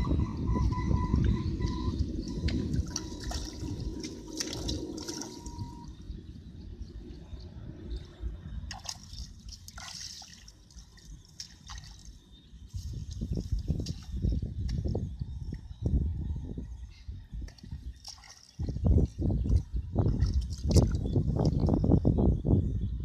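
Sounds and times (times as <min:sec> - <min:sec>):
water sloshing and trickling: 0:00.5 - 0:15.8, 0:17.3 - 0:22.1.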